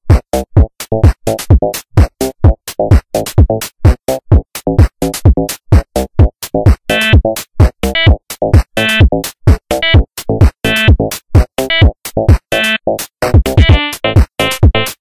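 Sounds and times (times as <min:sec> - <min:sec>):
deep kick drums: 0:00.1 - 0:12.4, 0:13.3 - 0:14.8
electronic music with drum-machine beat: 0:00.1 - 0:15.0.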